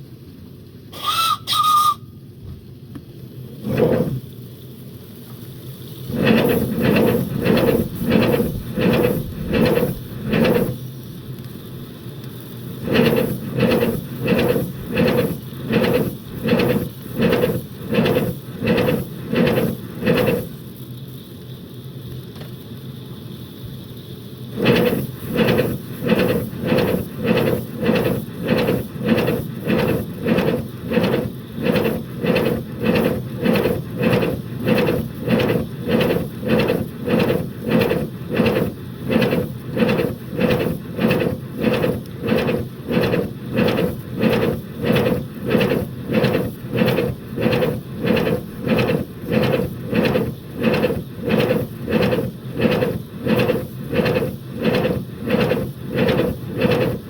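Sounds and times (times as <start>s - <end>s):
model steam locomotive exhaust beats: 0.0s - 57.0s.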